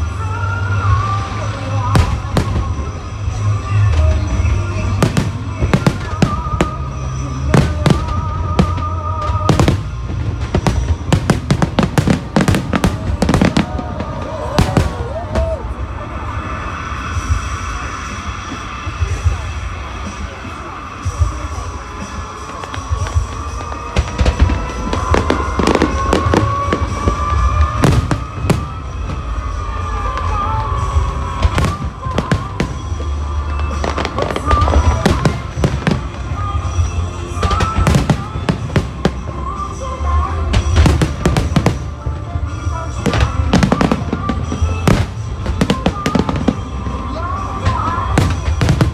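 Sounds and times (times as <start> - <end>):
fireworks bangs and crackles: 0.0 - 48.9
music playing: 0.0 - 48.9.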